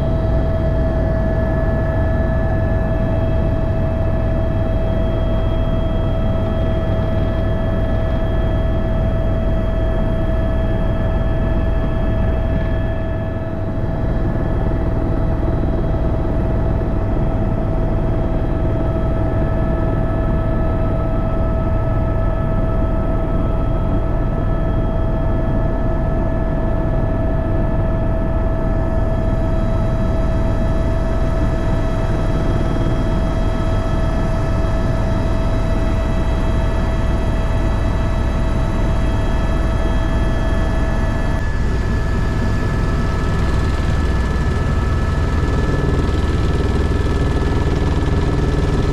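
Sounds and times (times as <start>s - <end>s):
helicopter rotor and engine rumble: 0.0s - 48.9s
high turbine whine: 0.0s - 48.9s.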